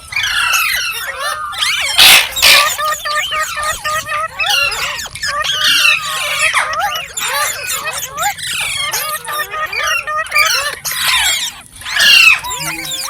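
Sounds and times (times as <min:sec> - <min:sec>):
parrot chirps and whistles: 0:00.0 - 0:13.0
parrot harsh screeches: 0:00.0 - 0:13.0.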